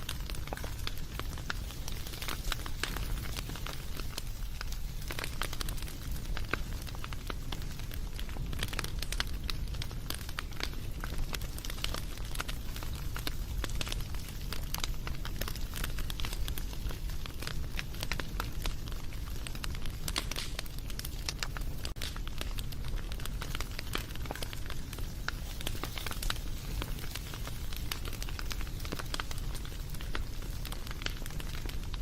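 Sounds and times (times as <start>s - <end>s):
low rumble of flames: 0.0s - 32.0s
wood fire pops and crackles: 0.0s - 32.0s.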